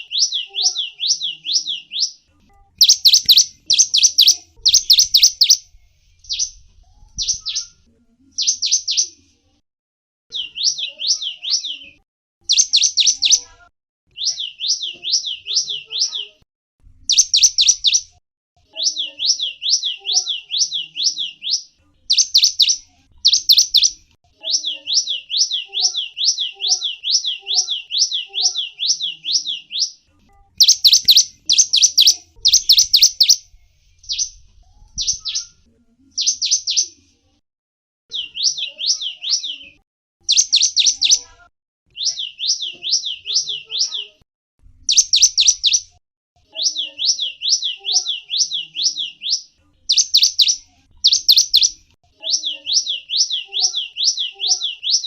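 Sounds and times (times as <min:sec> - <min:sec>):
songbird chirping and trilling: 0:00.0 - 0:09.4, 0:10.3 - 0:37.3, 0:38.1 - 0:44.2, 0:44.8 - 0:55.0.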